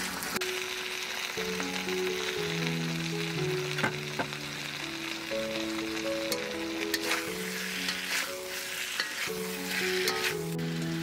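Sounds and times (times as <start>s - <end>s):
crackling sizzle with sharp pops: 0.0s - 11.0s
slow melody background music: 0.0s - 11.0s.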